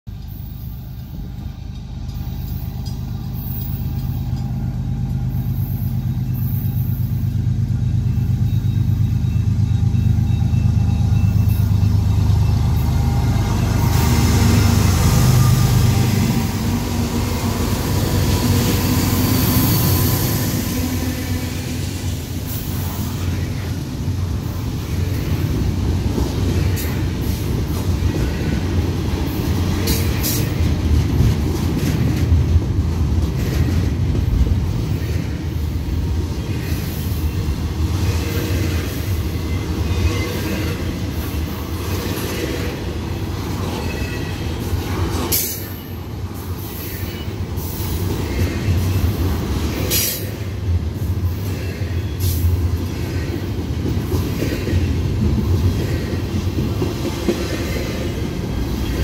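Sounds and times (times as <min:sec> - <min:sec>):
diesel locomotive engine rumble: 0:00.1 - 0:59.0.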